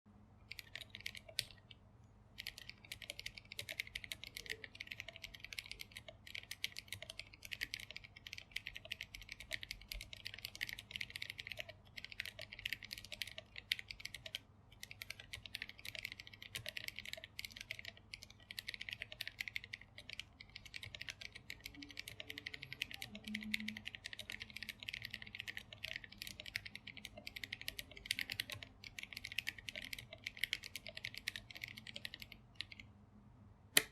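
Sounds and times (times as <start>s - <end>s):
typing on mechanical keyboard: 0.4s - 1.8s, 2.4s - 32.9s.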